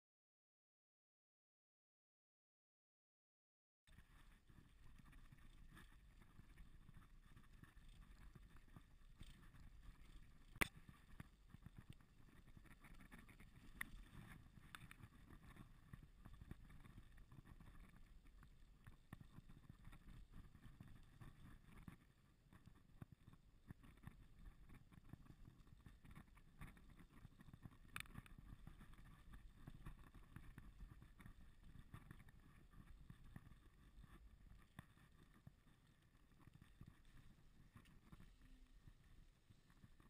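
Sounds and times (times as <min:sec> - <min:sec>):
small clicks and rattles: 0:03.9 - 0:40.0.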